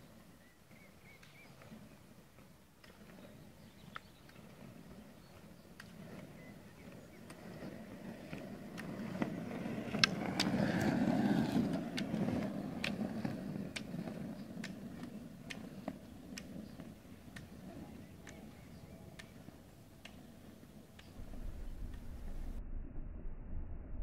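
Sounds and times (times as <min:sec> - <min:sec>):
roller ski wheels on asphalt: 0:00.0 - 0:22.6
ski poles clicking on road: 0:00.8 - 0:22.0.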